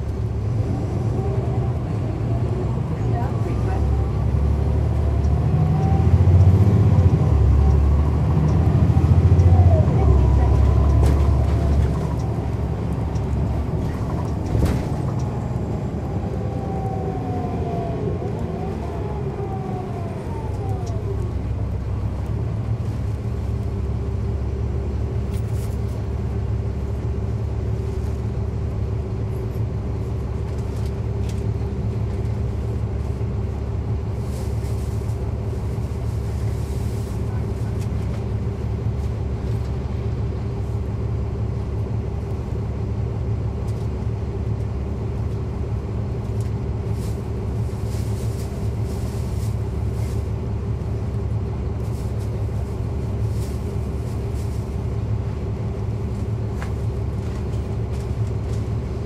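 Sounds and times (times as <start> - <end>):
bus driveline whine: 0.0 - 59.0
diesel engine drone: 0.0 - 59.0
low rumble: 0.0 - 59.0.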